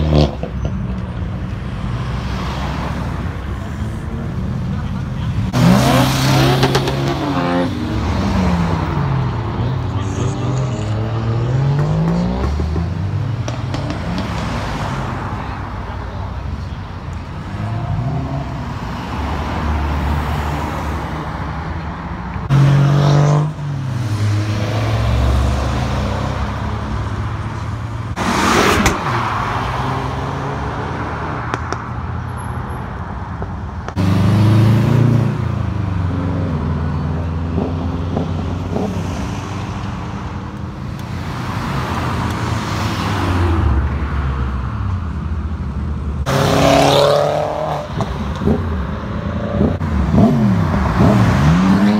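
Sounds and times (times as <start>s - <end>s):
cars revving past: 5.3s - 15.6s, 17.3s - 45.2s, 46.2s - 51.9s.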